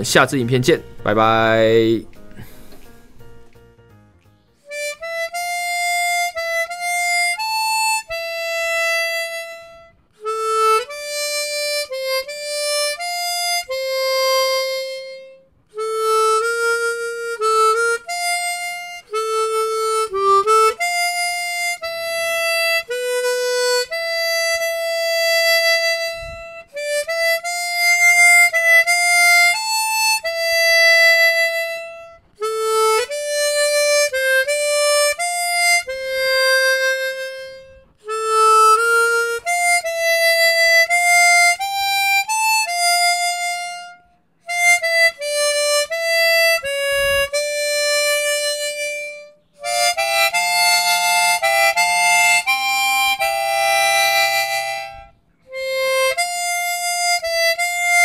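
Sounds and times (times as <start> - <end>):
chromatic harmonica melody: 0.0 - 58.0.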